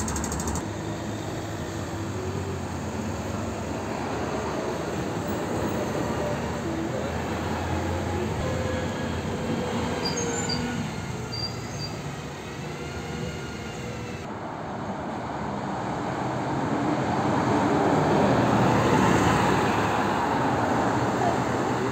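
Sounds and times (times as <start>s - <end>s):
traffic noise: 0.0s - 21.9s.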